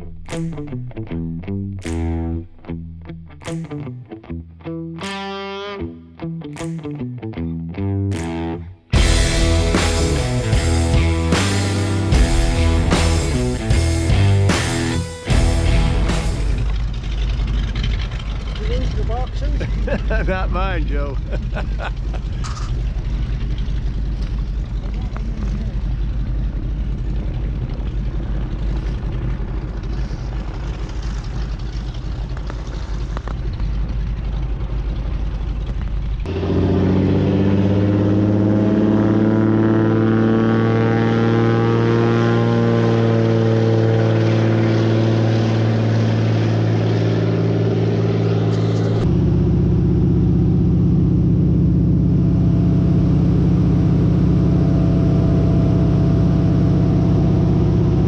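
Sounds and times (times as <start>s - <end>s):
propeller plane engine: 0.0s - 7.0s, 8.1s - 58.0s.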